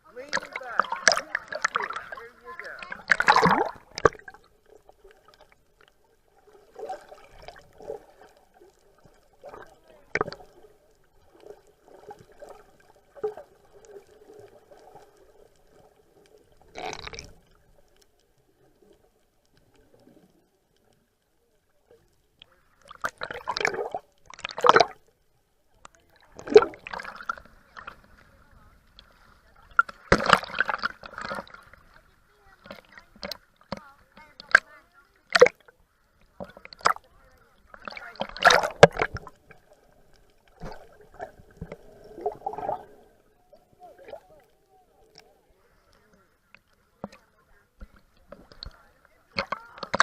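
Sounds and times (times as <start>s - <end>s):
water splashing against a boat: 0.0s - 15.0s, 21.5s - 25.1s, 25.8s - 50.0s.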